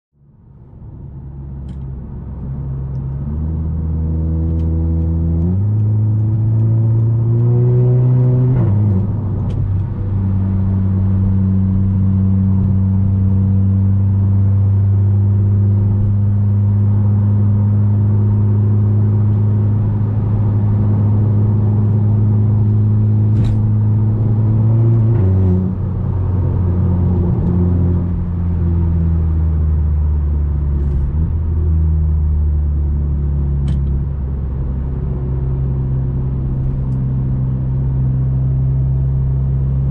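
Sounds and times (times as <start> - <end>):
turbocharged car engine accelerating: 1.6 - 39.9.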